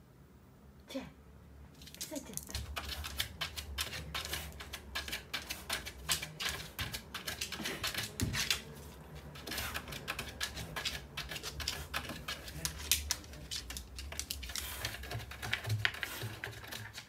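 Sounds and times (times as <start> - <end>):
dog claws scratching wooden floor: 1.8 - 17.0.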